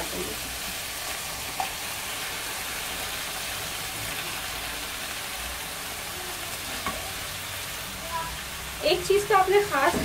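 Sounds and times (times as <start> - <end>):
onion paste sizzling in oil: 0.0 - 10.0.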